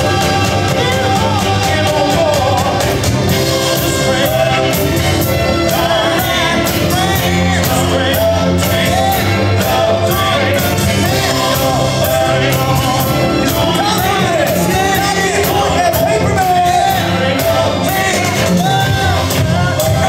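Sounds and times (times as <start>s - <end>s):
loud dance music: 0.0s - 20.0s
person singing: 0.0s - 20.0s
steady drum beat: 0.0s - 20.0s.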